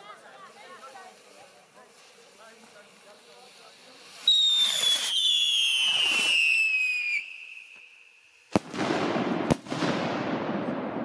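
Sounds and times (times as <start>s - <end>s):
firework hiss: 0.0s - 11.0s
firework whistling: 0.0s - 11.0s
firework bangs: 0.2s - 11.0s.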